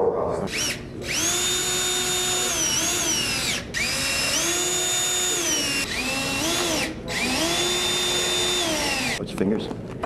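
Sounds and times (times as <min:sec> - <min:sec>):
cordless drill whining: 0:00.5 - 0:09.2.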